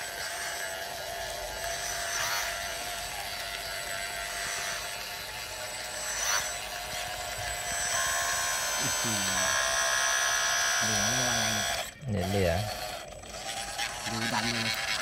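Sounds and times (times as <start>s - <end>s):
model bulldozer electric whine: 0.0s - 15.0s.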